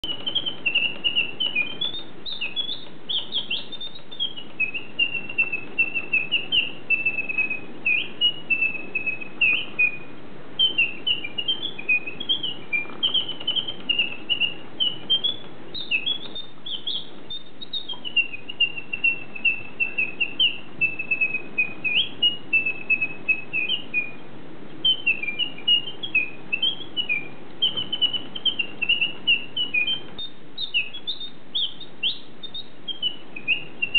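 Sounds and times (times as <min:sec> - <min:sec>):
bird chirping and twittering: 0:00.0 - 0:33.9
faint background hiss: 0:00.0 - 0:33.9.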